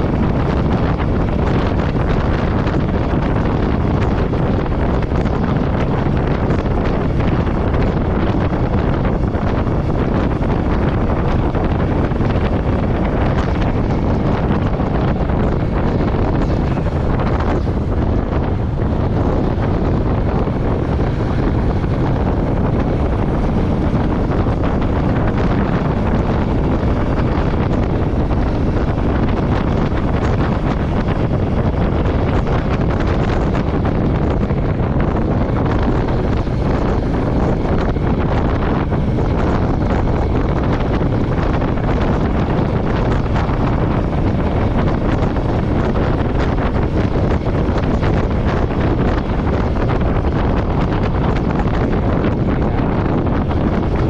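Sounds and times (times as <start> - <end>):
motorcycle engine cruising: 0.0 - 54.0
wind buffeting microphone: 0.0 - 54.0.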